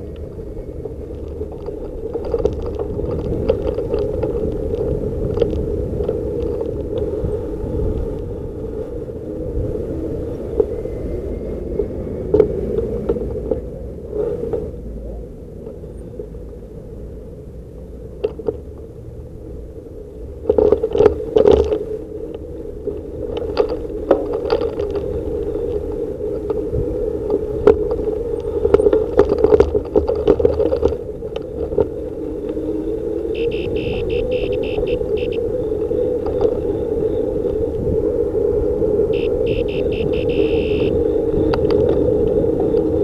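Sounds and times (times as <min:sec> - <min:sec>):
bicycle tyres rumbling: 0:00.0 - 0:43.0.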